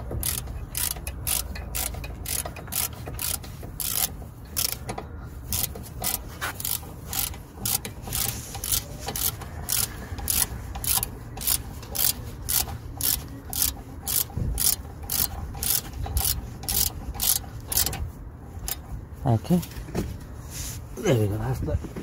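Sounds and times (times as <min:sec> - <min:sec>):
ratchet wrench clicking: 0:00.0 - 0:18.8.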